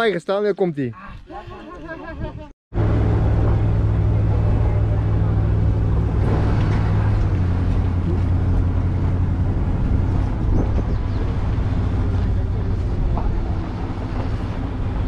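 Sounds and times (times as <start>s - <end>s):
vehicle engine running: 2.8s - 15.0s.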